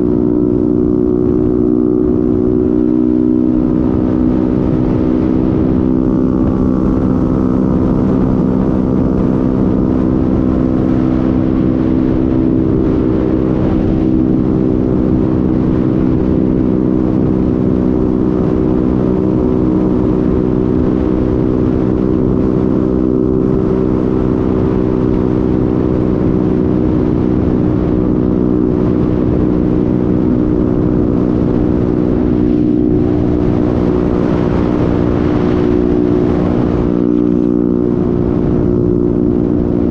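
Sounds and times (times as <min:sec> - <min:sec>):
scooter engine running: 0:00.0 - 0:39.9
wind noise on camera: 0:00.0 - 0:39.9.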